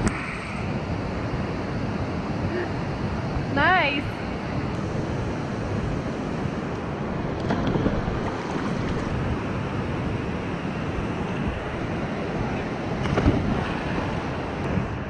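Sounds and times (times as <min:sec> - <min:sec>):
ocean surf: 0:00.0 - 0:15.0
wind on microphone: 0:00.0 - 0:15.0.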